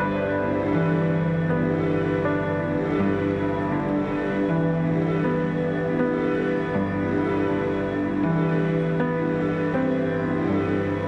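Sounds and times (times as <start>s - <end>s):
soft string-like background music: 0.0s - 11.0s.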